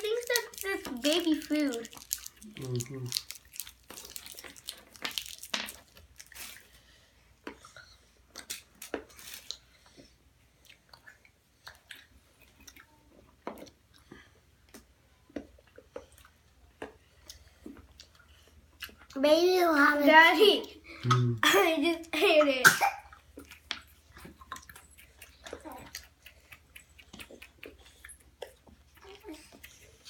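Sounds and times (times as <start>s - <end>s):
child chewing candy: 0.0s - 19.2s, 23.1s - 30.0s.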